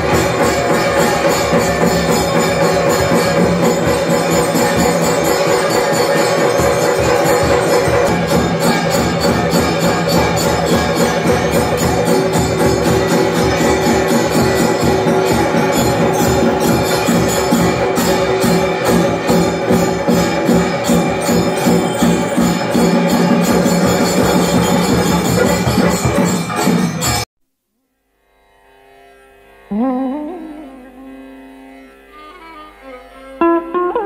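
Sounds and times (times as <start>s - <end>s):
jingling bells and cymbals: 0.0s - 27.3s.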